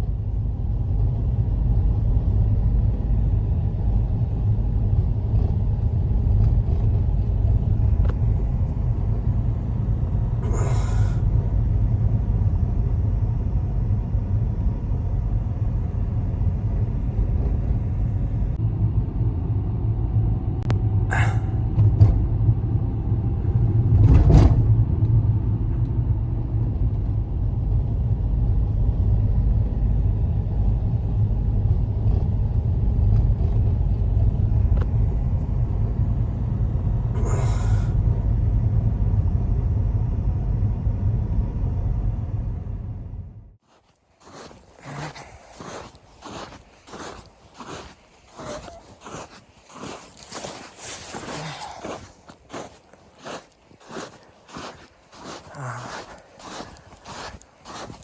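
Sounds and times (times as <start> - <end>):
snowstorm wind rumble: 0.0 - 58.0.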